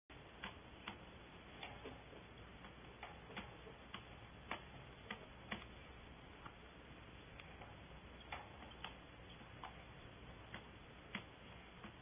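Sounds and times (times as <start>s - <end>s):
low hiss: 0.1s - 12.0s.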